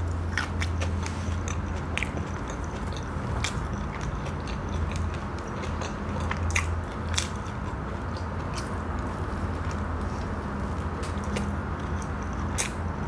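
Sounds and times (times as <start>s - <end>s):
chewing crisp fried snacks: 0.0s - 13.0s
steady low hum: 0.0s - 13.0s.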